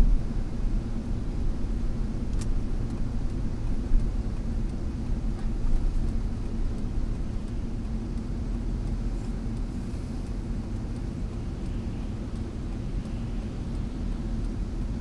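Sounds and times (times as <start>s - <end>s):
car driving rumble from inside: 0.0s - 15.0s.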